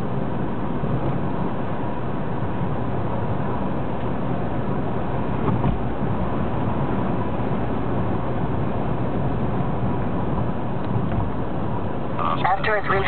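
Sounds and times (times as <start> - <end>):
car driving from inside cabin: 0.0 - 13.0.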